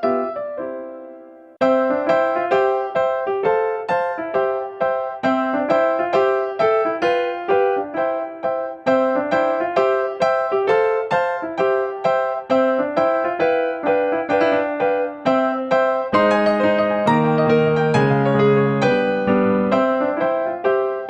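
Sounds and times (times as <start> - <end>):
light piano melody: 0.0 - 21.0.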